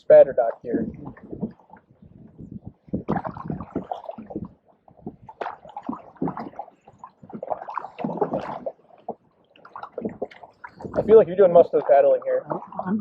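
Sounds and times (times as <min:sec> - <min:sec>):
canoe paddles splashing in water: 0:00.4 - 0:12.9.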